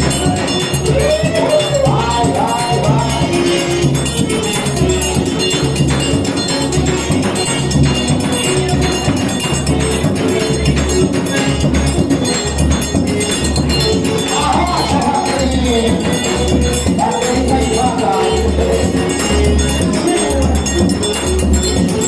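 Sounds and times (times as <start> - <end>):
jingling percussion: 0.0 - 22.0.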